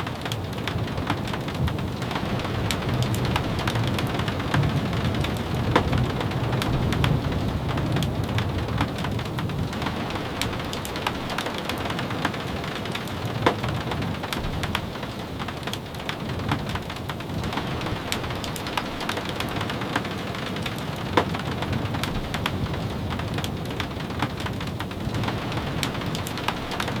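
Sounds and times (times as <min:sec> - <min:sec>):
raindrops ticking: 0:00.0 - 0:27.0
steady rain: 0:00.0 - 0:27.0.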